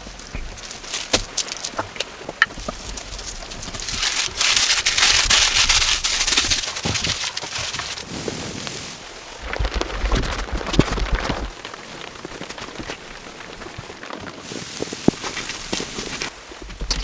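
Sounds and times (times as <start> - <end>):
clicks and crackles: 0.0 - 8.1, 9.4 - 17.0
rain falling: 0.0 - 17.0.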